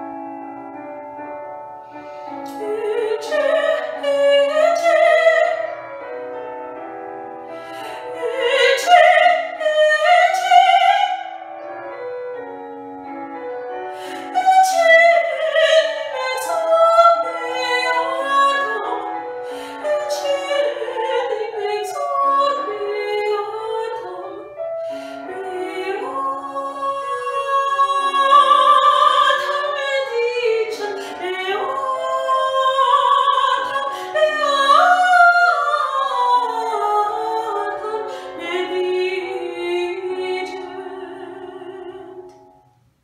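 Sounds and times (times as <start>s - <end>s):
woman singing operatically: 2.5s - 5.7s, 7.8s - 11.3s, 14.0s - 42.4s.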